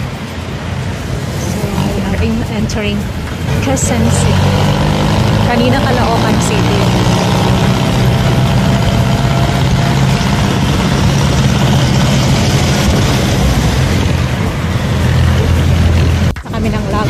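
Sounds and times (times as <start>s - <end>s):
road and wind noise: 0.0s - 17.0s
vehicle engine running: 0.0s - 17.0s.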